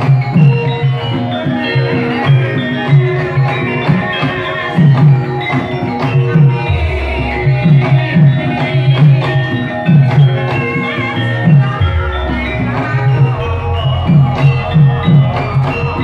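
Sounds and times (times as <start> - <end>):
hand drum beating: 0.0 - 16.0
metallophone notes: 0.0 - 16.0.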